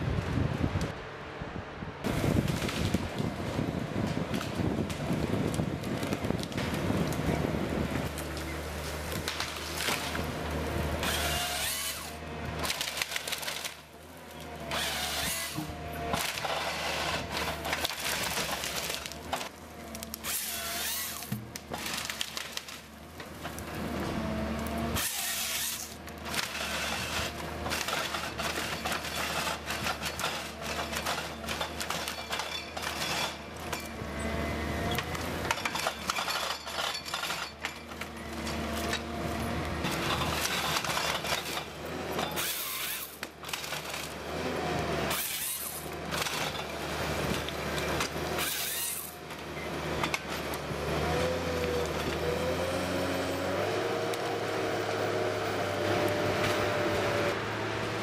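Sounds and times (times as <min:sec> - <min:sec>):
harvester engine and hydraulics whine: 0:00.0 - 0:58.0
branches cracking and snapping: 0:02.1 - 0:34.0, 0:34.9 - 0:52.5
chain saw cutting: 0:09.2 - 0:22.9, 0:24.2 - 0:57.4.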